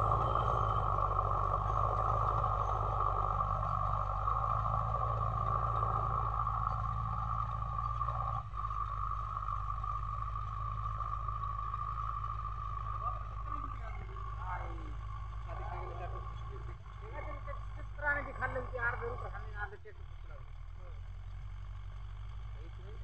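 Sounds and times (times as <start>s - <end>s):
distant tractor diesel engine: 0.0s - 23.0s.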